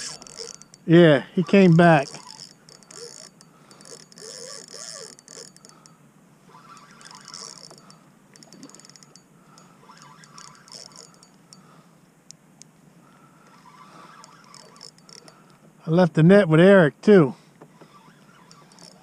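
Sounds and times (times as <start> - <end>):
fishing reel clicking: 0.0 - 12.4, 13.1 - 15.6, 17.8 - 19.0.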